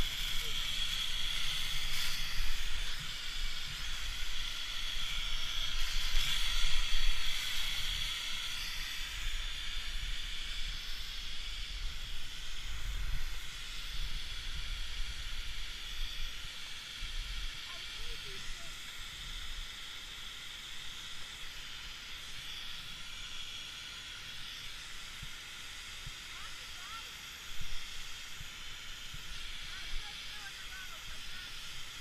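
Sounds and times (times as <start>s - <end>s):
snowmaking guns hissing: 0.0s - 32.0s.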